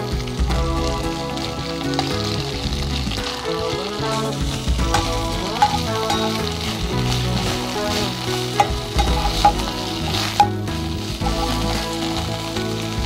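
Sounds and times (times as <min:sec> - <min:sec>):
leaves sizzling in oil: 0:00.0 - 0:13.0.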